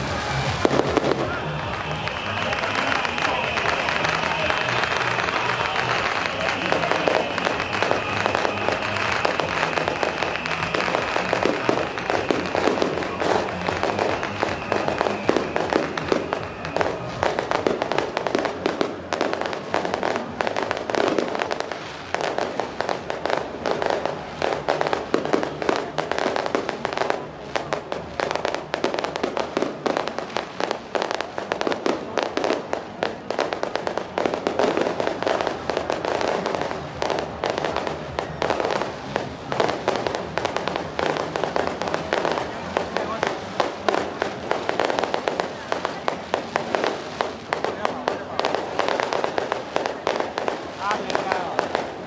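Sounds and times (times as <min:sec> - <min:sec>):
firecrackers crackling rapidly: 0:00.0 - 0:52.0.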